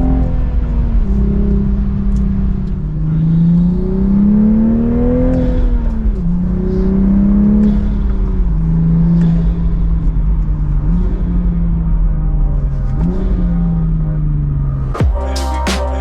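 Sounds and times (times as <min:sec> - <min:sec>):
car engine pulling under throttle: 0:00.0 - 0:15.1.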